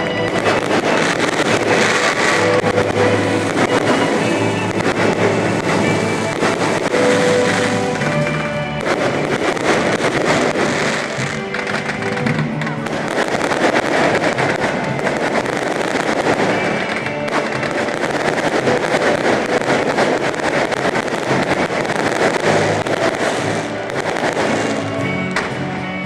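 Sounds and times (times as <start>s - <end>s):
fireworks crackling: 0.0s - 26.0s
music playing: 0.0s - 26.0s.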